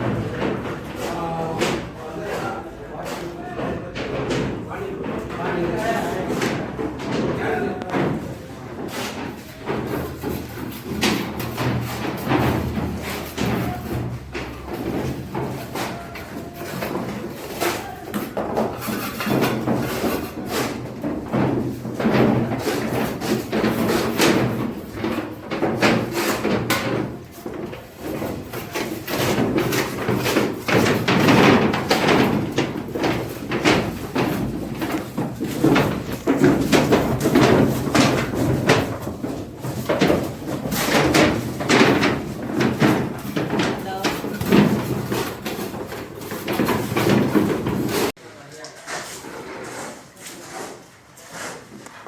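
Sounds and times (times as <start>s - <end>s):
construction knocks and bangs: 0.0s - 48.2s.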